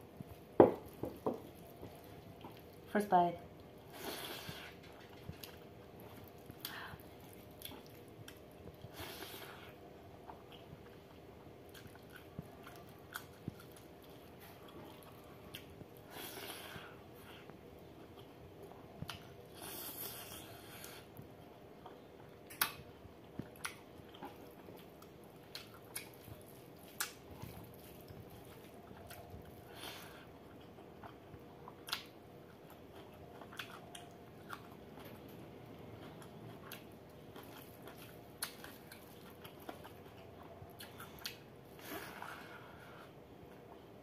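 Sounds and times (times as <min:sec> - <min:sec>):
chewing food: 0:00.2 - 0:02.9, 0:03.6 - 0:44.0.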